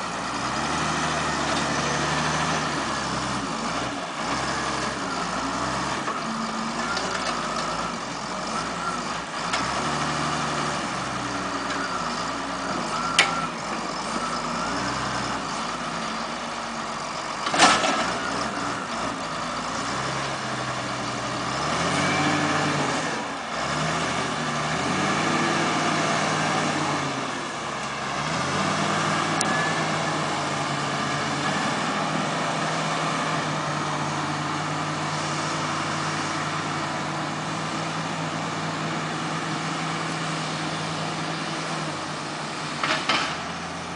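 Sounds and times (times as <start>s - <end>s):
heavy vehicle engine revving: 0.0s - 43.9s.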